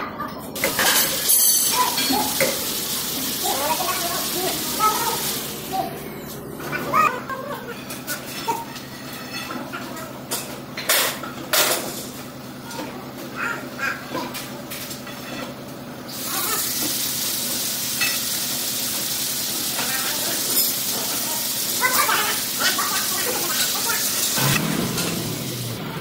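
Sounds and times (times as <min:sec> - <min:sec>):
workers' voices: 0:00.0 - 0:26.0.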